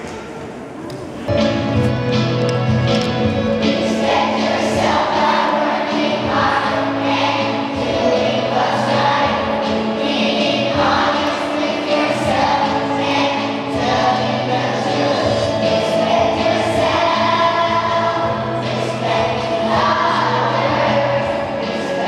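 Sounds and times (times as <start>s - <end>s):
choir singing: 3.6s - 22.0s.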